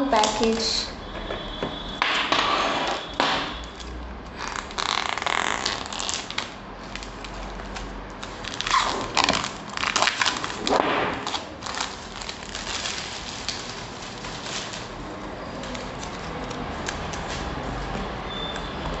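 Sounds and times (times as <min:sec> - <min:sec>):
plastic wrap crinkling: 0:02.3 - 0:19.0.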